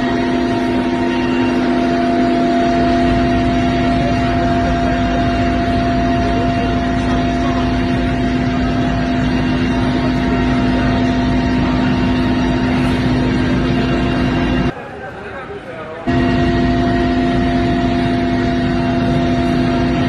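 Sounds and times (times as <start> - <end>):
helicopter engine and rotor drone: 0.0 - 20.0
steady humming tones: 0.0 - 20.0.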